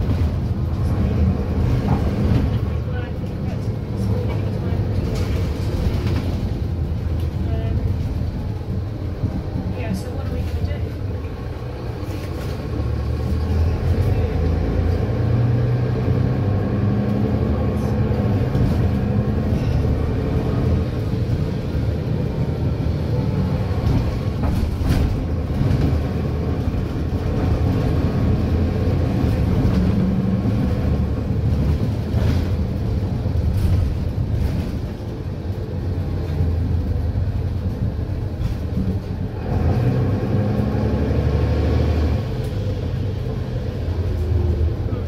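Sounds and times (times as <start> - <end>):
bus engine drone: 0.0 - 45.0.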